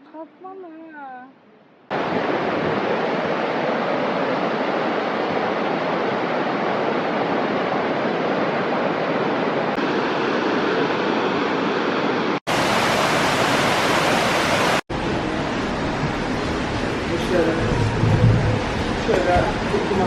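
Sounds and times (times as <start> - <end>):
rush of fast-flowing water: 1.9 - 20.0.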